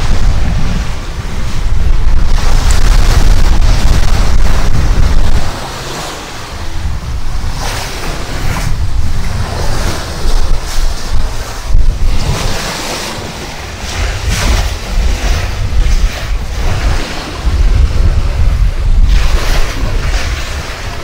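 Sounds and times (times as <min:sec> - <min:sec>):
heavy low rumble: 0:00.0 - 0:21.0
sea water rushing along hull: 0:00.0 - 0:21.0
wind buffeting microphone: 0:00.0 - 0:21.0.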